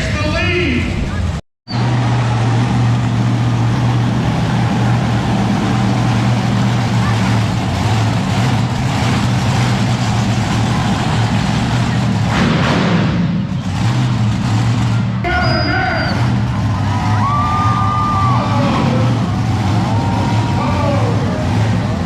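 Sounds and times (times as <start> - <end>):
monster truck engine running: 0.0 - 22.0.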